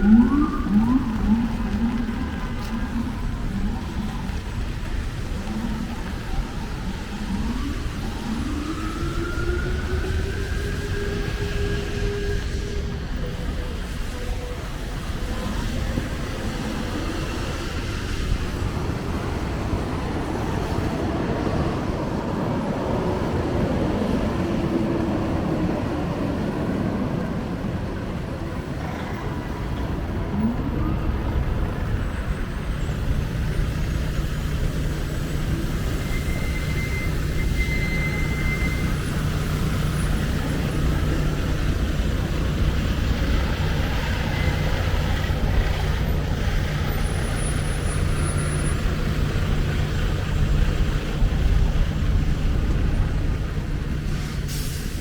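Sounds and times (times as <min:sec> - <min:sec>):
low engine drone: 0:00.0 - 0:55.0
traffic rumbling past: 0:00.0 - 0:55.0.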